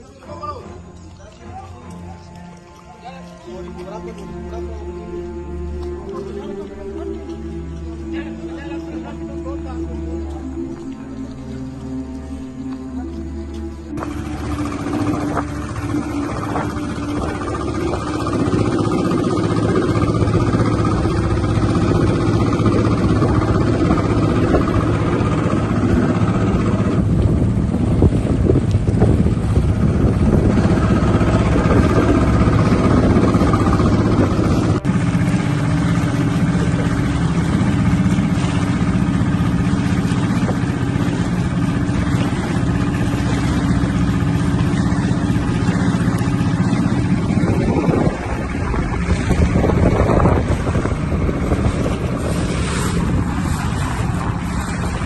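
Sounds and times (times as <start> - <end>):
outboard motor droning: 0.0 - 55.0
wind and water rushing: 0.0 - 55.0.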